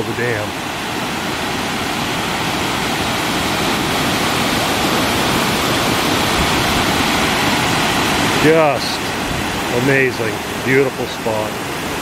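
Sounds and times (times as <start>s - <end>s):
water rushing over spillway: 0.0s - 12.0s.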